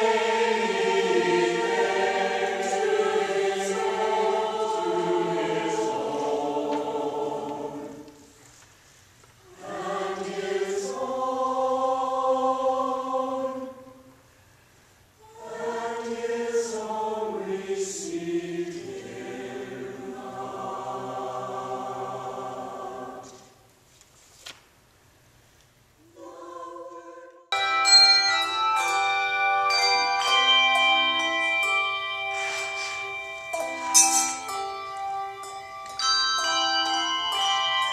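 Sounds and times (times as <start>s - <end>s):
choir singing sustained chords: 0.0s - 8.4s, 9.4s - 14.4s, 15.2s - 23.7s, 26.0s - 37.9s.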